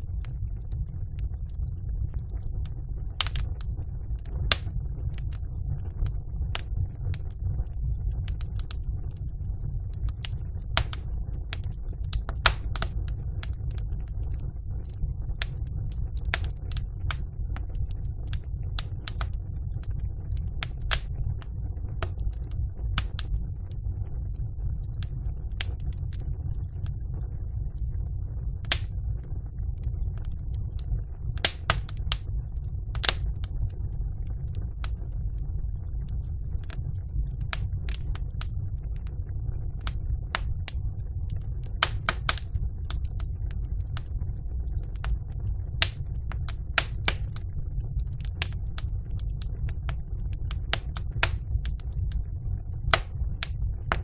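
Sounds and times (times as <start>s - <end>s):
fire crackling and popping: 0.0s - 54.0s
fire rumbling: 0.0s - 54.0s.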